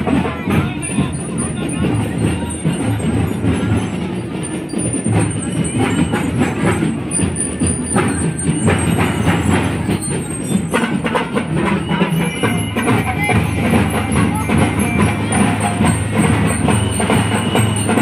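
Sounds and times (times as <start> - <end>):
loud drum-driven music: 0.0 - 18.0.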